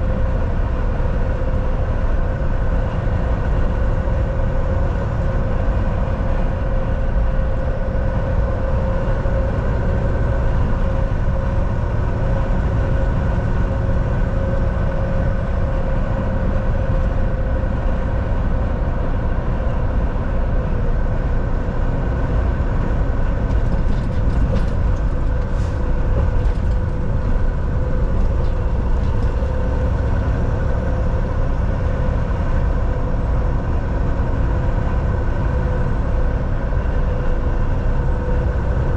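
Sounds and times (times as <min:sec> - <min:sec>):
road noise rumble: 0:00.0 - 0:38.9
truck diesel engine hum: 0:00.0 - 0:38.9.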